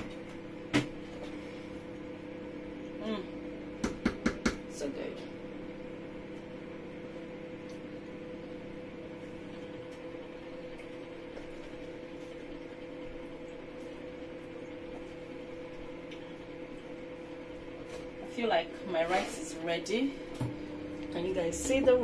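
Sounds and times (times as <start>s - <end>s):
kitchen appliance humming: 0.0s - 22.0s.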